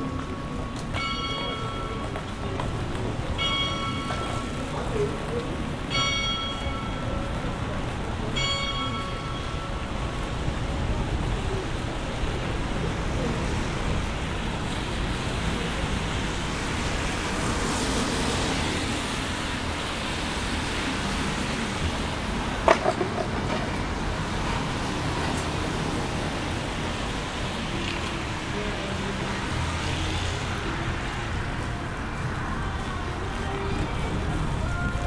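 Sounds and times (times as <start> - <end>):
heavy rain: 0.0 - 35.0
traffic on wet road: 0.0 - 35.0.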